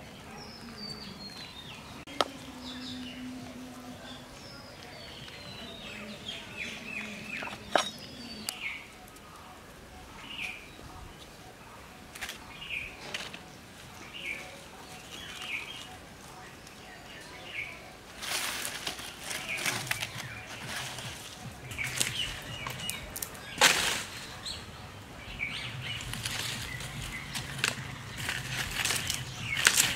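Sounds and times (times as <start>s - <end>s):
birds chirping: 0.0s - 29.9s
dry sticks crackling and rustling: 0.0s - 29.9s.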